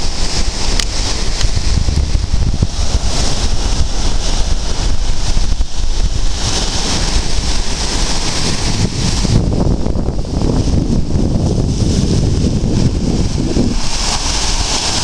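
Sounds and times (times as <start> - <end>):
sea waves breaking on rocks: 0.0 - 15.0
wind buffeting microphone: 0.0 - 15.0.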